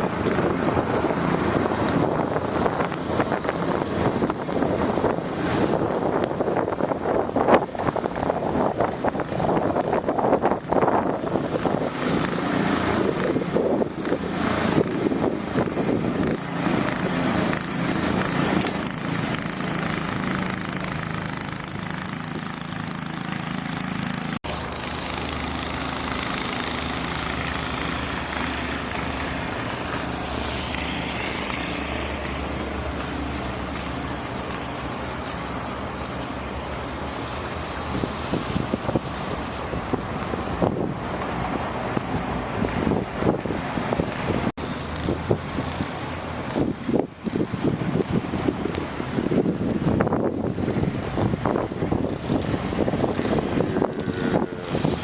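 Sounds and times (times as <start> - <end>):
gusty wind: 0.0 - 25.3, 26.2 - 55.0
city traffic noise: 0.0 - 55.0.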